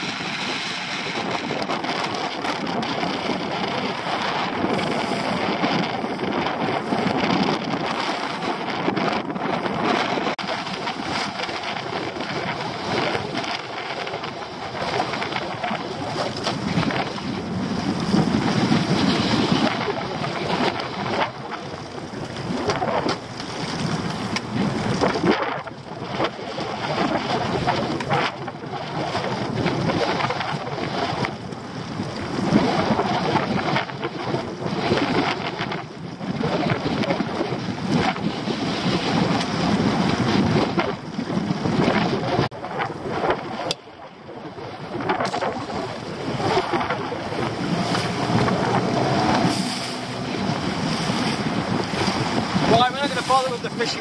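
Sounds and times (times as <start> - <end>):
sea washing against boat hull: 0.0 - 54.0
wind buffeting microphone: 0.0 - 54.0.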